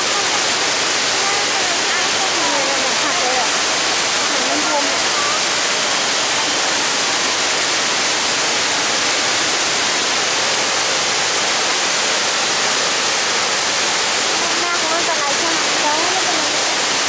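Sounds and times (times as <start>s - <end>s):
water rushing from dam spillway: 0.0s - 17.0s.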